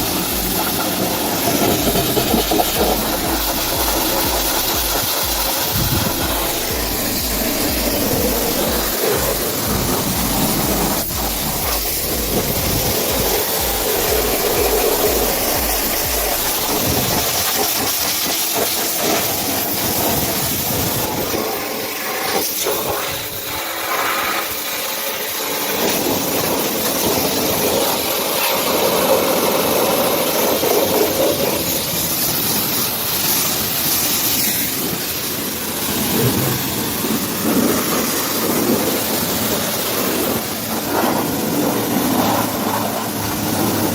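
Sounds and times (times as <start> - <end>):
pressure washer spray hissing: 0.0 - 43.9
pump pulsing rumble: 0.0 - 43.9.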